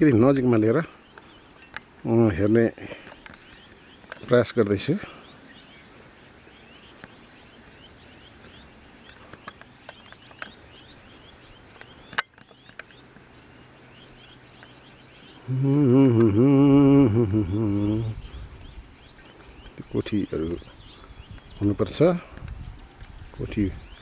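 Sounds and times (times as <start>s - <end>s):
birds chirping faintly: 0.0s - 24.0s.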